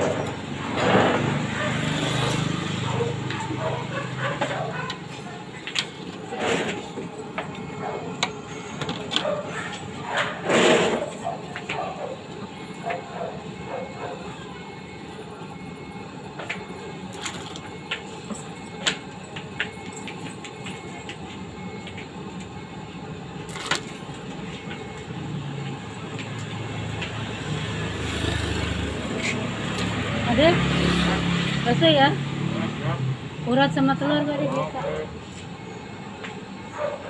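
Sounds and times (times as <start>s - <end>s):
street background din: 0.0s - 37.0s
vehicle engine rumbling: 0.0s - 37.0s.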